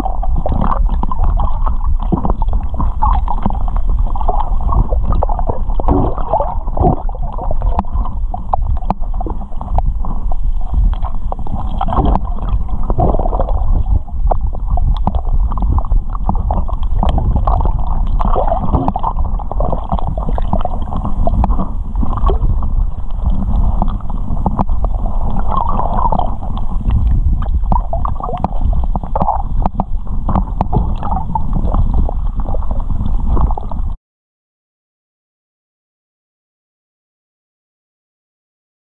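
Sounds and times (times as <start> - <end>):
underwater rumble and gurgling: 0.0 - 34.0
clicks and crackles: 0.4 - 33.8.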